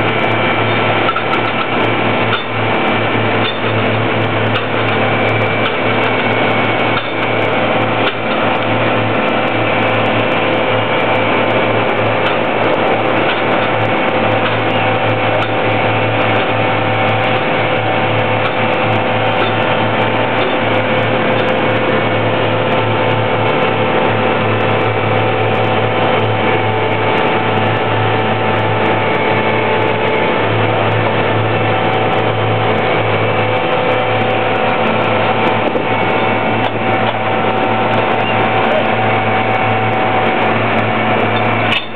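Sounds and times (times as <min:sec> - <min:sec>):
paving machinery running: 0:00.0 - 0:41.9.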